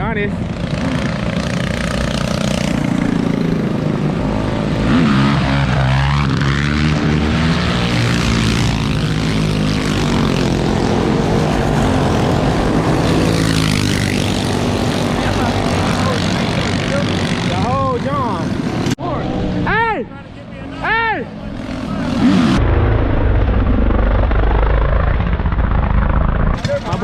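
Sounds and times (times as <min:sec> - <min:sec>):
minibike engines droning: 0:00.0 - 0:22.6, 0:23.4 - 0:27.0
minibike engine revving: 0:00.4 - 0:19.6, 0:21.3 - 0:22.6, 0:23.4 - 0:27.0.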